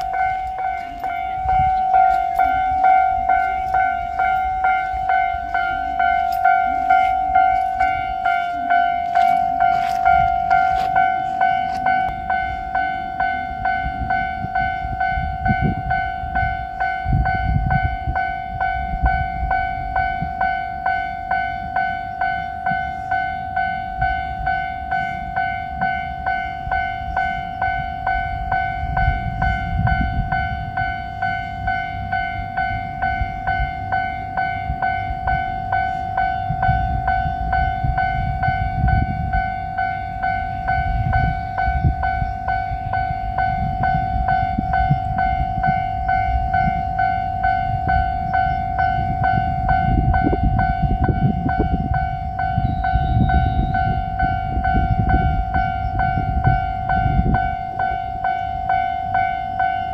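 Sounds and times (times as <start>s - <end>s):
level crossing bell ringing: 0.0s - 59.9s.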